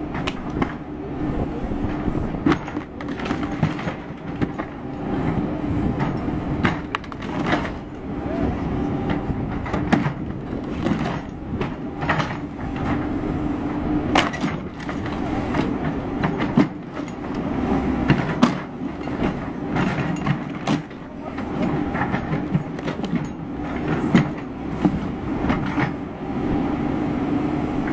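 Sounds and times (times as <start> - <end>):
diesel engine droning: 0.0 - 27.9.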